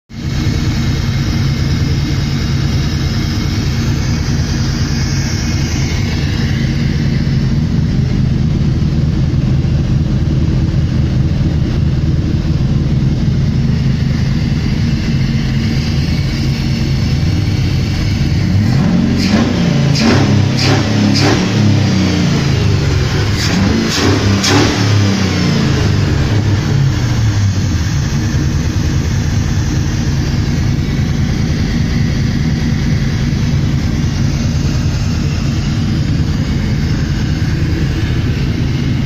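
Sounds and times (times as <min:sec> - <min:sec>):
car engine running and revving: 0:00.2 - 0:39.0.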